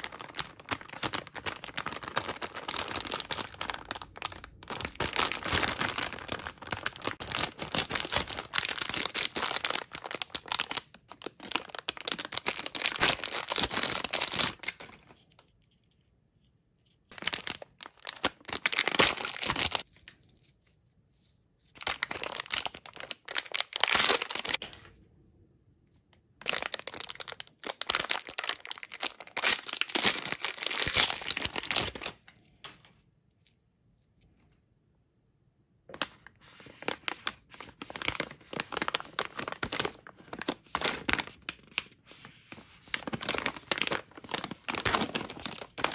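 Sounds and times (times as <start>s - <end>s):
plastic wrappers crinkling: 0.0s - 15.5s, 17.1s - 20.2s, 21.7s - 24.7s, 26.4s - 32.8s, 35.9s - 45.9s.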